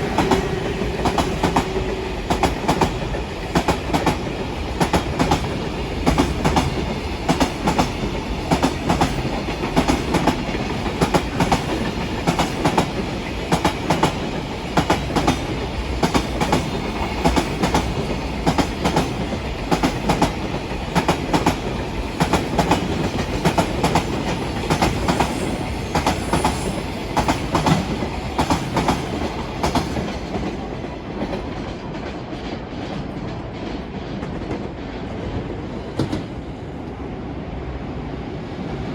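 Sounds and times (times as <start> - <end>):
train wheels clacking on rails: 0.0 - 36.5
train rolling rumble: 0.0 - 38.9.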